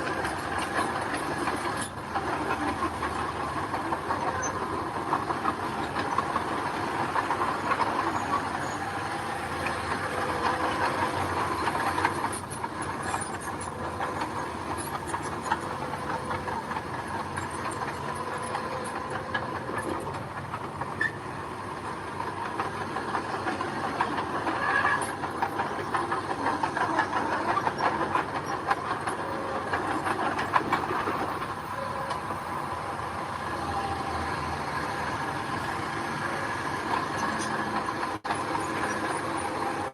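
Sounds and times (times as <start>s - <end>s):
bulldozer diesel engine running: 0.0s - 39.9s
steel tracks clattering: 0.0s - 39.9s.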